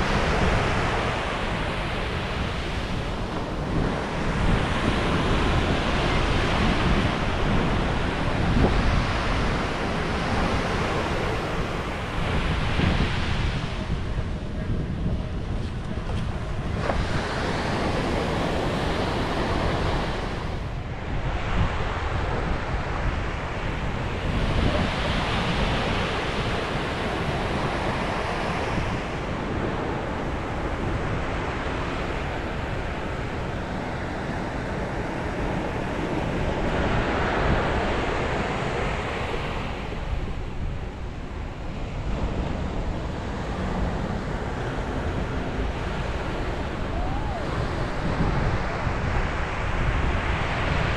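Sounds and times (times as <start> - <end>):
sea waves breaking: 0.0 - 50.9
wind rumbling on microphone: 0.0 - 50.9.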